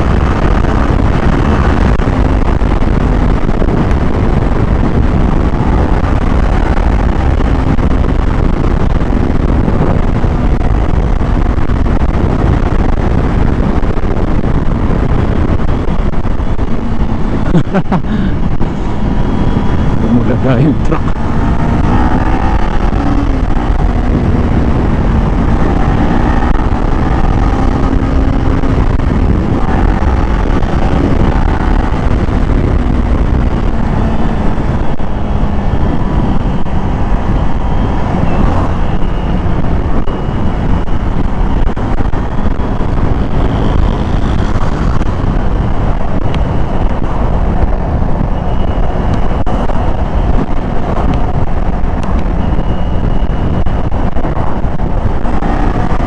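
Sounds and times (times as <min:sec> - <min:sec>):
motorcycle engine running: 0:00.0 - 0:56.0
wind rushing on microphone: 0:00.0 - 0:56.0.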